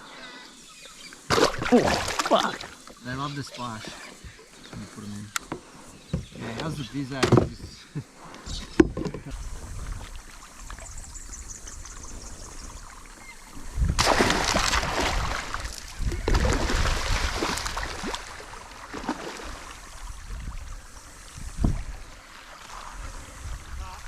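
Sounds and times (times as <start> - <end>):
water splashing around kayak: 1.2 - 24.0.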